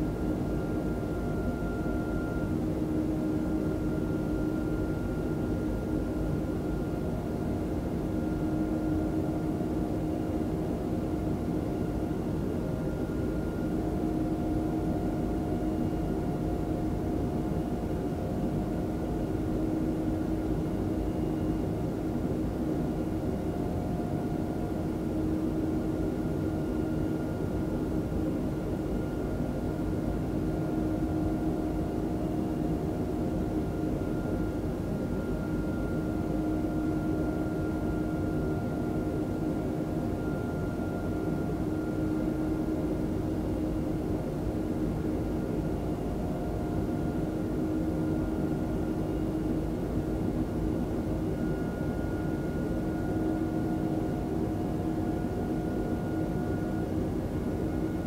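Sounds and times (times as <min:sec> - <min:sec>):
jet engine cabin noise: 0:00.0 - 0:58.0.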